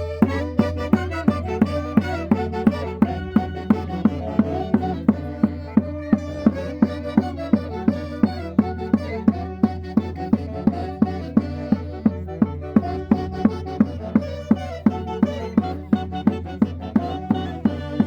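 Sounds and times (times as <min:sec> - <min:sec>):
folk melody instruments: 0:00.0 - 0:18.0.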